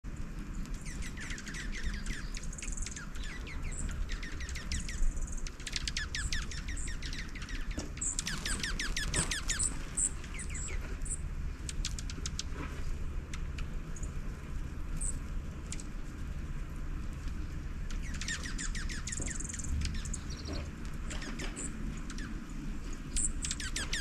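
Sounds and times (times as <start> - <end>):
songbirds calling and singing: 0.1 - 24.0
steady low rumble: 0.1 - 24.0.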